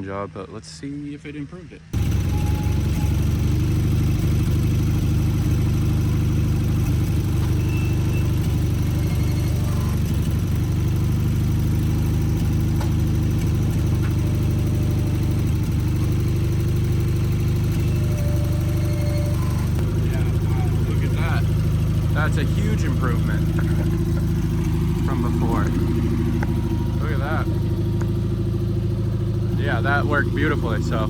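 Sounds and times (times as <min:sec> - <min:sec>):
garden tractor engine running: 0:02.0 - 0:31.0.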